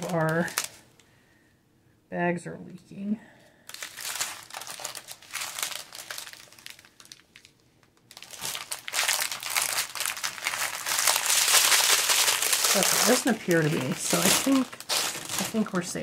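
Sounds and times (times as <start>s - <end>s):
plastic bags crinkling: 0.0s - 0.8s, 3.7s - 16.0s.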